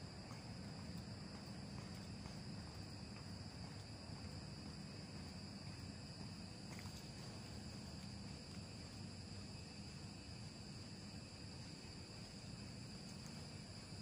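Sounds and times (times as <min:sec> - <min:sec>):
low constant hum: 0:00.0 - 0:14.0.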